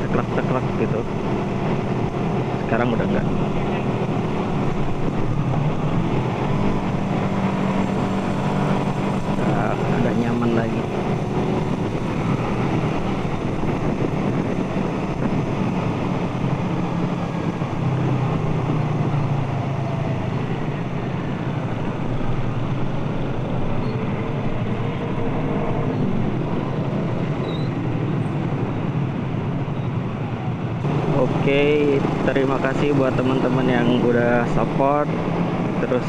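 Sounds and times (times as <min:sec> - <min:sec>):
road and wind noise: 0:00.0 - 0:36.0.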